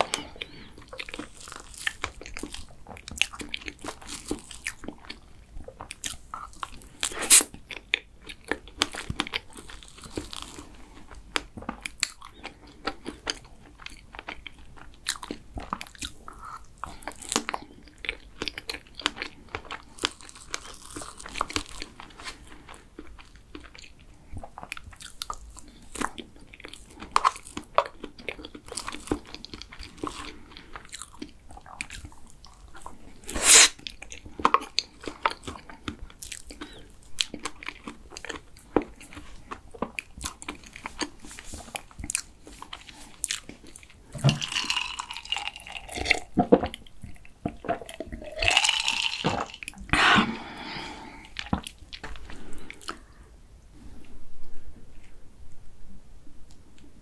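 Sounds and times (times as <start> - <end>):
soft chewing and mouth smacks: 0.0 - 55.6.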